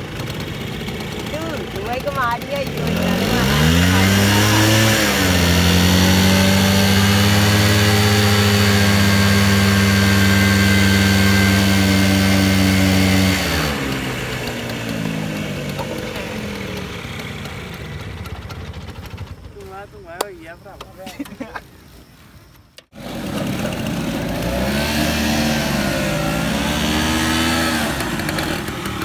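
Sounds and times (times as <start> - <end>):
scooter engines revving: 0.0 - 20.2, 22.8 - 29.0.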